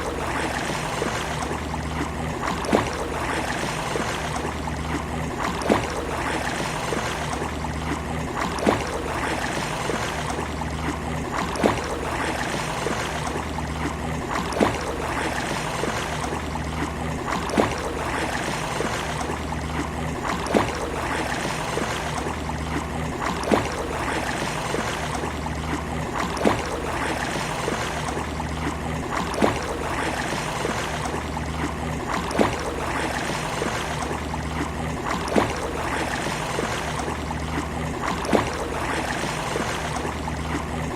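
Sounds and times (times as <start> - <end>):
sea waves on a beach: 0.0 - 40.9.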